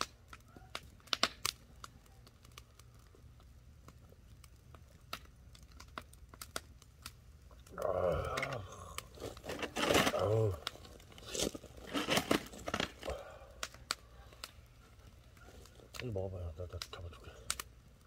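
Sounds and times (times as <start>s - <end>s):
grill fire crackling and popping: 0.0s - 18.0s.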